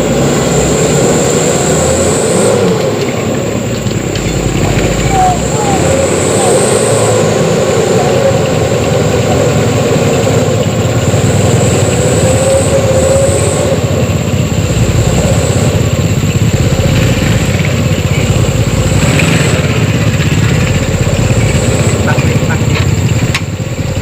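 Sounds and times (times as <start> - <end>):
diesel truck engine running: 0.0 - 24.0
wavering high whine: 0.0 - 24.0.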